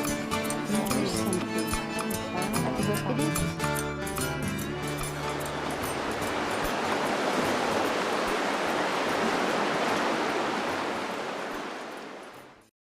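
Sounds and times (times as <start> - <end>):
rushing river water: 0.0 - 12.7.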